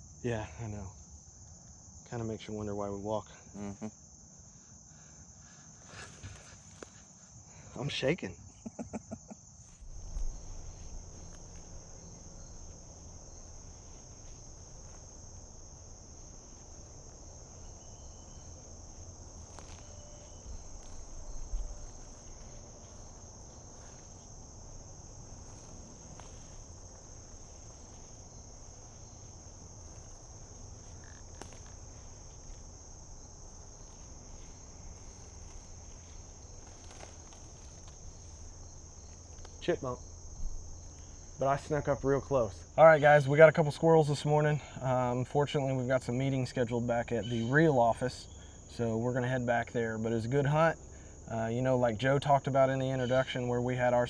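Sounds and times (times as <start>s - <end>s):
insect chorus drone: 0.0s - 54.0s.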